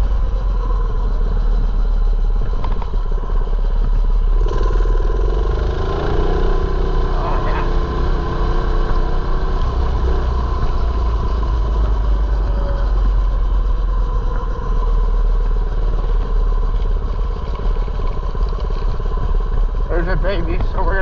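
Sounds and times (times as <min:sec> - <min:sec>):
mini bike engine running: 0:00.0 - 0:21.0.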